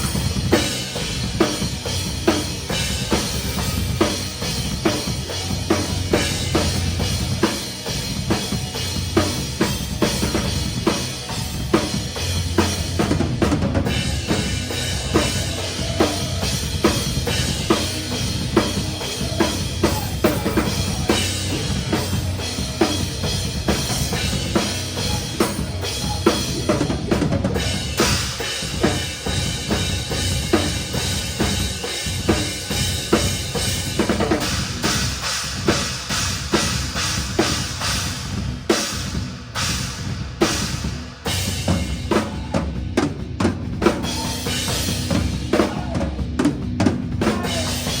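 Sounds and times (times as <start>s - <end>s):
drum kit played hard: 0.0s - 48.0s
fast bass drum and snare hits: 0.0s - 48.0s
metal band playing: 0.0s - 48.0s.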